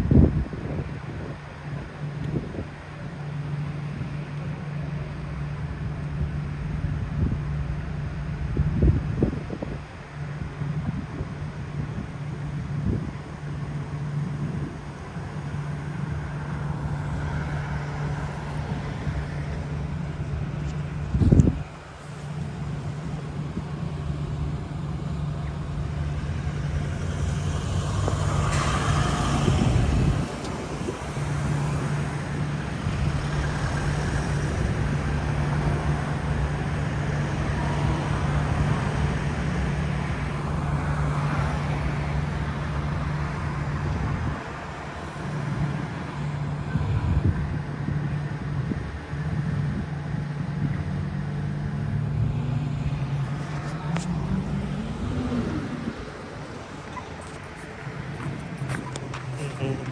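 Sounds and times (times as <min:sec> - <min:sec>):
road traffic engine hum: 0:00.0 - 0:59.9.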